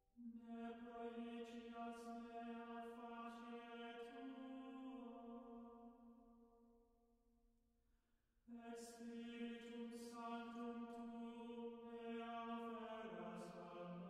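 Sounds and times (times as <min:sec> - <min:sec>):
slow soft vocal chant: 0:00.2 - 0:06.3, 0:08.5 - 0:14.0.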